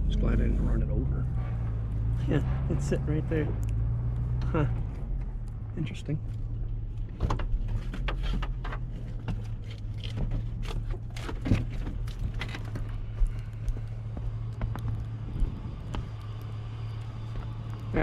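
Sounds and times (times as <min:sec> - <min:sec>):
plow engine humming: 0:00.0 - 0:18.0.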